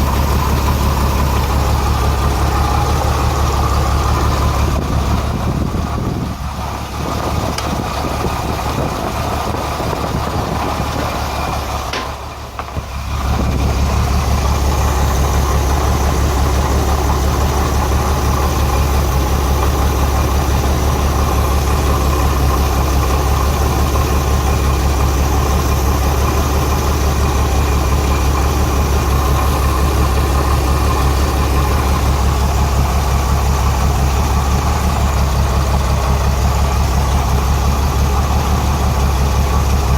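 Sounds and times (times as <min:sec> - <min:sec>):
engine idling roughly with misfire: 0:00.0 - 0:39.9.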